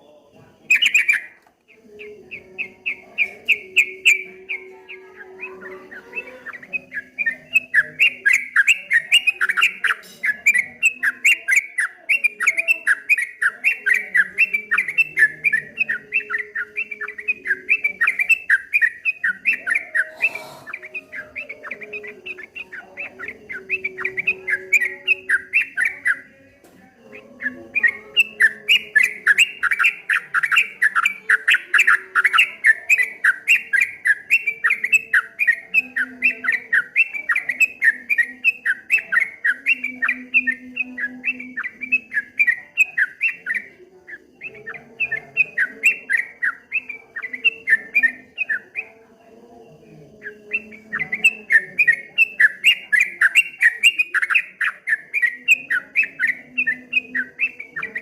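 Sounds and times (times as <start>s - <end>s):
bulbul chattering song: 0.0s - 58.0s.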